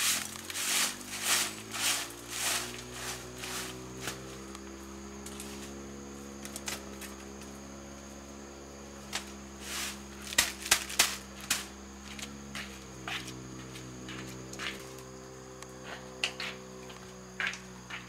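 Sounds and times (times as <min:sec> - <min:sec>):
steady hum of held tones: 0:02.4 - 0:18.0.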